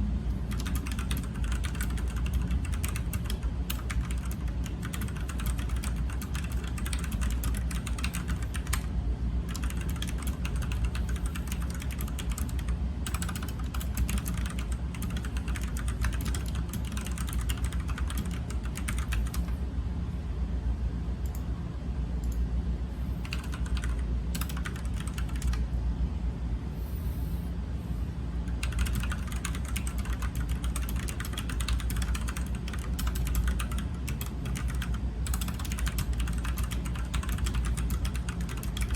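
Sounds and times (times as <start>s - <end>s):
mechanical keyboard typing: 0.5s - 8.9s, 9.5s - 19.5s, 23.2s - 25.6s, 28.5s - 38.9s.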